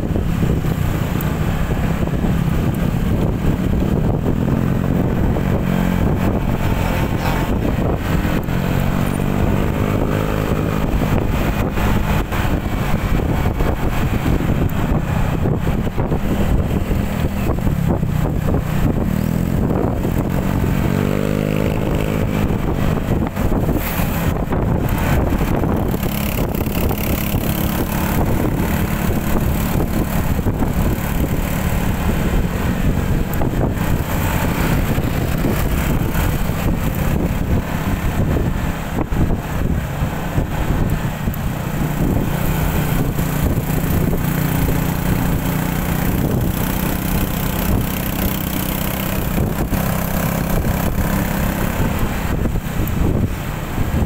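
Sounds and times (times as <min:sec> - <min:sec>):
road rumble: 0:00.0 - 0:54.0
scooter engine running: 0:00.0 - 0:54.0.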